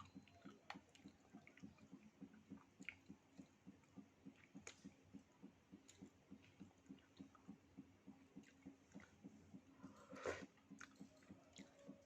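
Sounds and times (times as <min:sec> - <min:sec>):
chewing soft food: 0:00.0 - 0:12.0.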